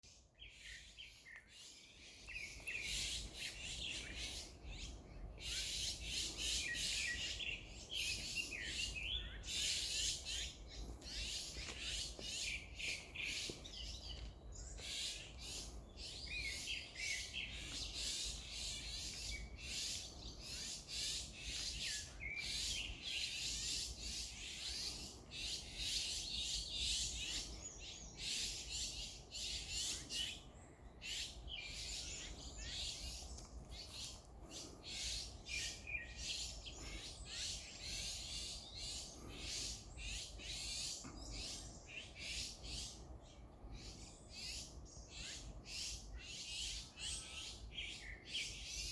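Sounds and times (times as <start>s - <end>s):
many birds chirping: 0.0s - 48.9s.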